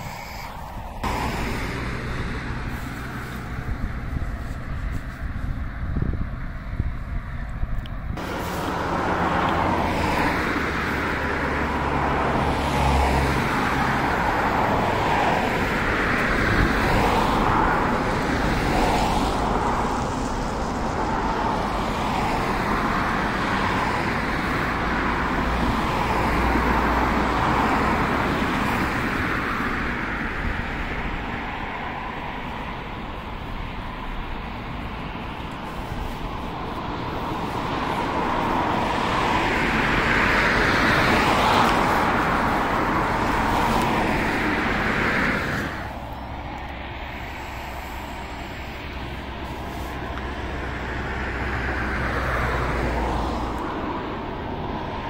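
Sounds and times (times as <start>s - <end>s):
passing road traffic: 0.0s - 55.0s.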